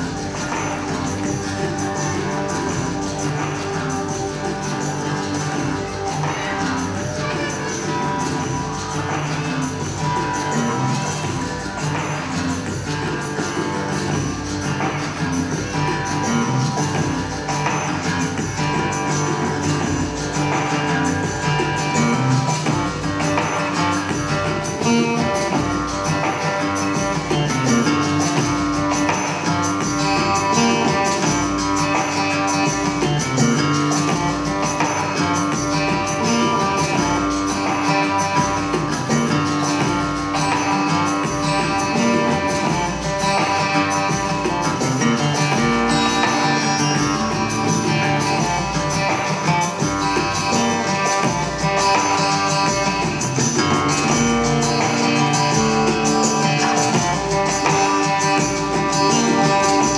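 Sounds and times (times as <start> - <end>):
stage-show music with bass beat: 0.0 - 59.9.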